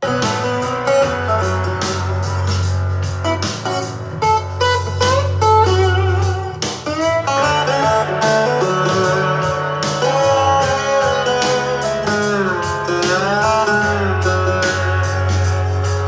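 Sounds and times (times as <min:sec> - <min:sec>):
bass line: 0:00.0 - 0:16.0
guitar song over speaker: 0:00.0 - 0:16.0.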